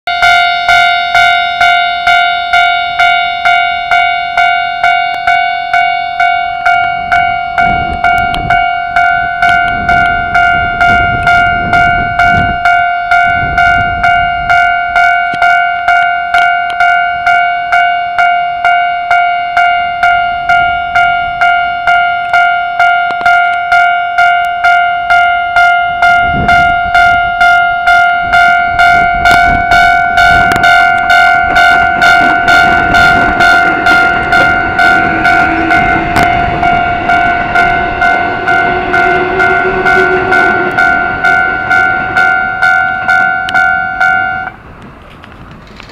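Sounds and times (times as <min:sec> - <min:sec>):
level crossing warning bell ringing: 0:00.1 - 0:44.8
low rumble of passing train: 0:00.1 - 0:45.9.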